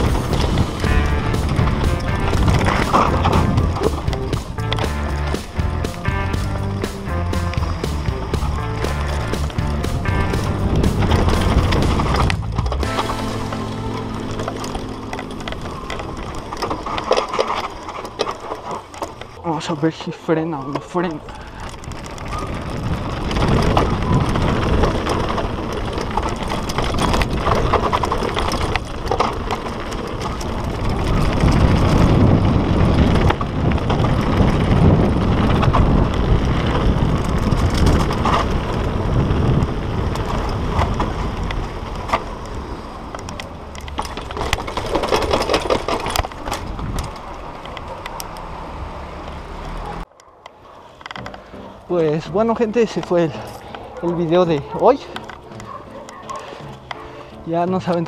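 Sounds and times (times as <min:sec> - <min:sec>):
bike rattling and knocking: 0:00.0 - 0:48.5, 0:50.9 - 0:58.0
bike tyres rolling over dirt: 0:00.0 - 0:58.0.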